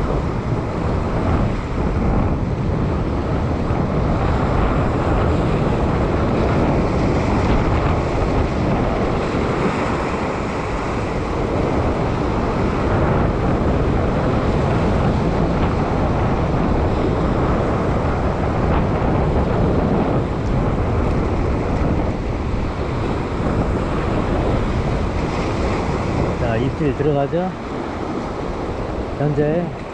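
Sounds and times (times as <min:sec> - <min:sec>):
waves breaking on rocks: 0:00.0 - 0:29.9
wind rumble on microphone: 0:00.0 - 0:29.9.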